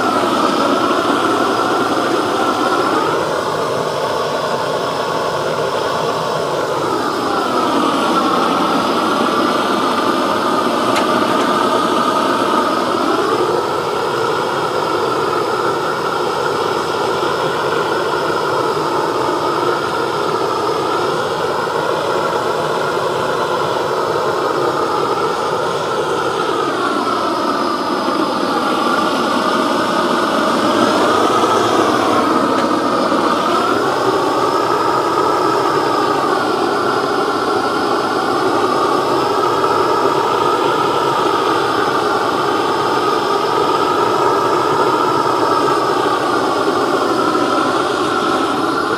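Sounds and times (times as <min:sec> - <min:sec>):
blowtorch flame hissing: 0:00.0 - 0:48.9.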